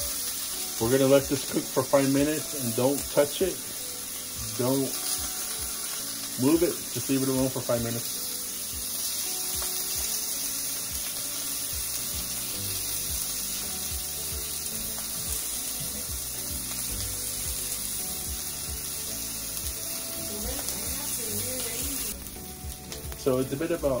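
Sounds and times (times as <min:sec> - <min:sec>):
steak sizzling in a grill pan: 0:00.0 - 0:24.0.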